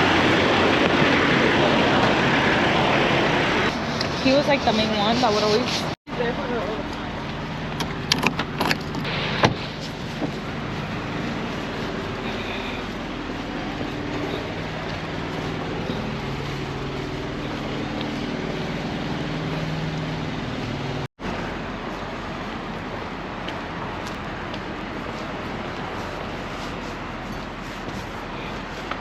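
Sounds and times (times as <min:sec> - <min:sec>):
road noise: 0:00.0 - 0:29.0
vehicle engine hum: 0:00.0 - 0:29.0.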